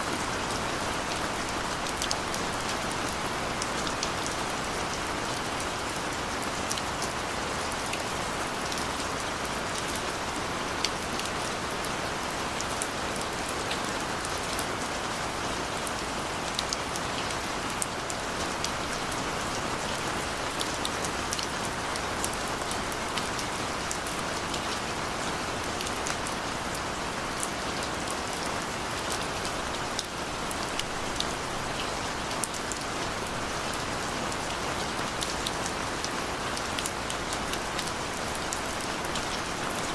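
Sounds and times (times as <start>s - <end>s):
raindrops ticking on hard surfaces: 0.1s - 39.9s.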